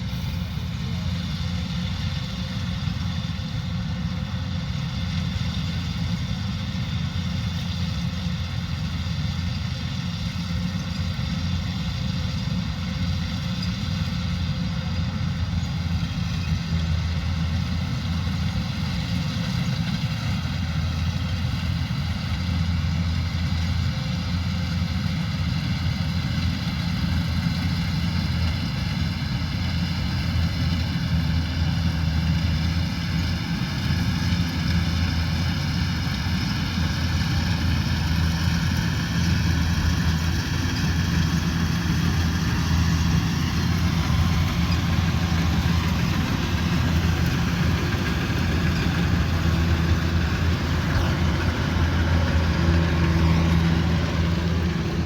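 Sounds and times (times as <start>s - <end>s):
combine harvester diesel engine: 0.0s - 55.0s
machinery whine: 0.0s - 55.0s.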